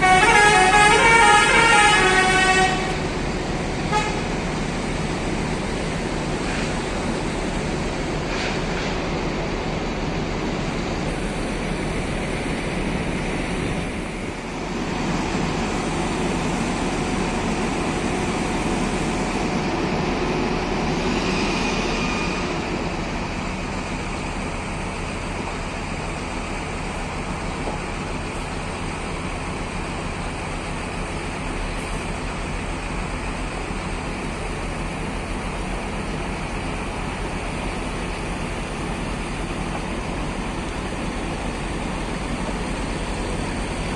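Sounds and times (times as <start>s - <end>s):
diesel bus engine running: 0.0s - 43.9s.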